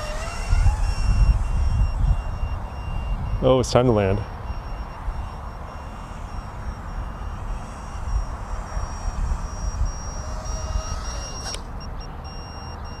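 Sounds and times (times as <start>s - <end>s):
wind rumble on microphone: 0.0s - 12.0s
rapid short high beeps: 0.4s - 13.0s.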